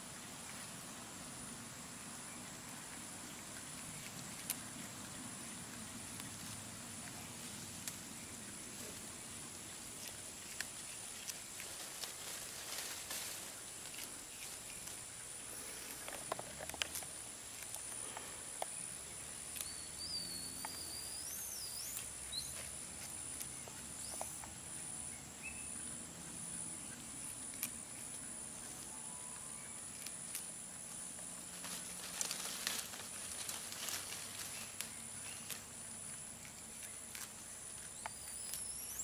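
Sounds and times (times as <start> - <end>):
insect drone: 0.0 - 39.0
leaves and twigs rustling: 2.4 - 19.8, 20.4 - 25.5, 27.2 - 39.0.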